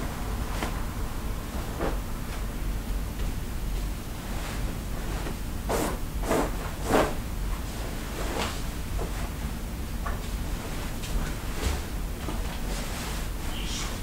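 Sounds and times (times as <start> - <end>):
bedding rustling and swishing: 0.0 - 14.0
low steady rumble: 0.0 - 14.0.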